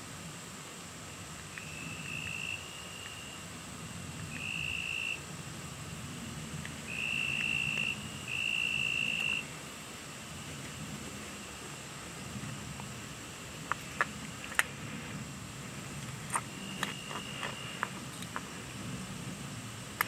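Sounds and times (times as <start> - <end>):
insects trilling: 0.0 - 20.0
thin high whine: 0.0 - 20.0.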